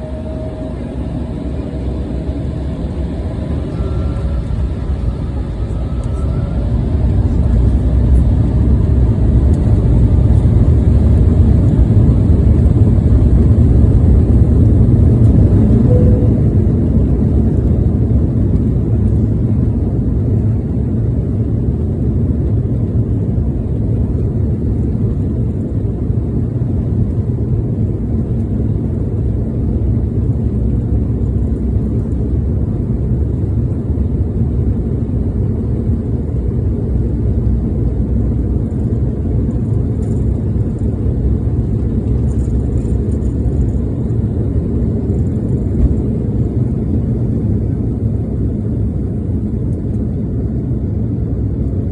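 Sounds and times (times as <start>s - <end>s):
airliner engine rumble: 0.0s - 51.9s.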